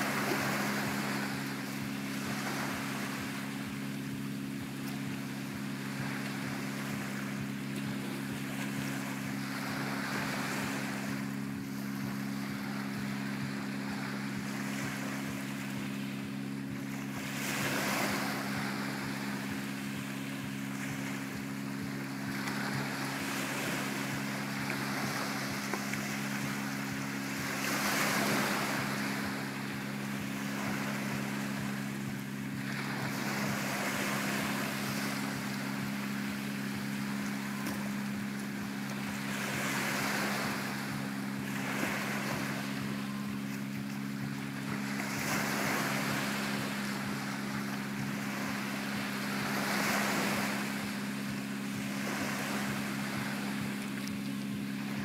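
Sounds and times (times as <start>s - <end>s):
steady low hum: 0.0s - 55.0s
waves lapping on sandy shore: 0.0s - 55.0s.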